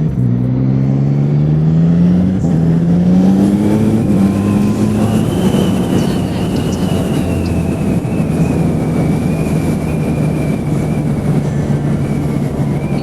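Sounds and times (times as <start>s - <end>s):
motorcycle engine running: 0.0s - 13.0s
road noise: 0.0s - 13.0s
rushing wind: 0.0s - 13.0s.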